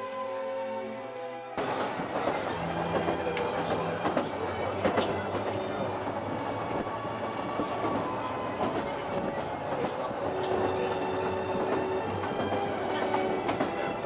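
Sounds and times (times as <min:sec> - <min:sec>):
train running noise: 0:00.0 - 0:14.0.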